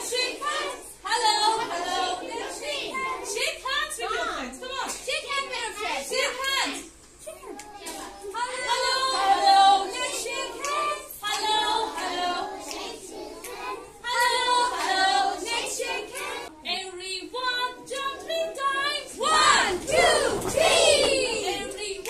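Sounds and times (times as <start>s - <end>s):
girls singing together: 0.0s - 3.9s, 7.6s - 22.0s.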